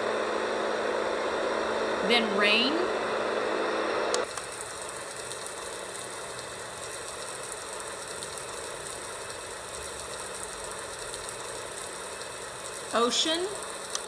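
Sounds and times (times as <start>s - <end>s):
faint steady hum: 0.0s - 14.0s
recorded rain hiss: 0.0s - 14.0s.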